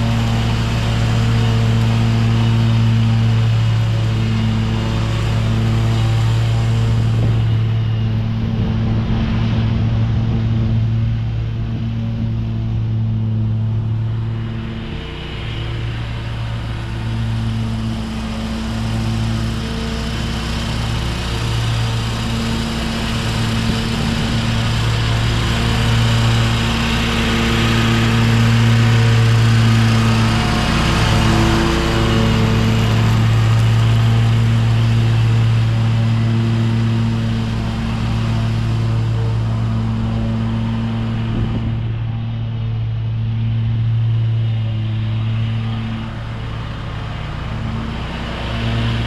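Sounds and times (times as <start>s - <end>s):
cutting deck whirring: 0.0s - 49.0s
lawn mower engine running: 0.0s - 49.0s.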